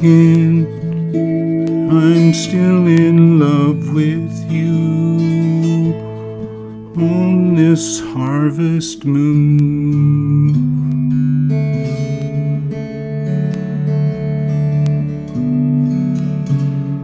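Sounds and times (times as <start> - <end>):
electric slide guitar: 0.0 - 17.0.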